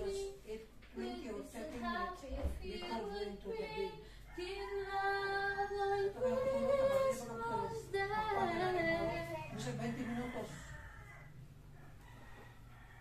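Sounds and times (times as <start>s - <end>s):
person singing unaccompanied: 0.0s - 10.5s.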